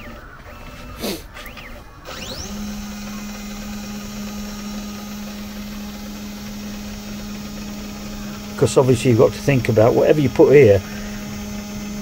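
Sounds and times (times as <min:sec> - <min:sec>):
stepper motors humming: 0:00.0 - 0:12.0.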